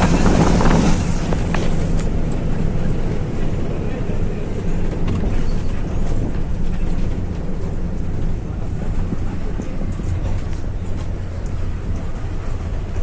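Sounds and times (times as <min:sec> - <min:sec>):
diesel bus engine rumble: 0:00.0 - 0:13.0
road noise: 0:00.0 - 0:13.0.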